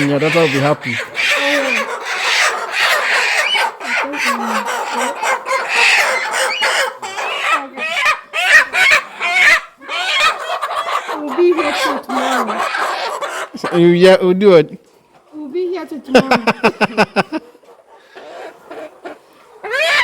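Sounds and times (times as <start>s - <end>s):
chickens clucking and squawking: 0.0s - 14.3s, 14.9s - 20.0s.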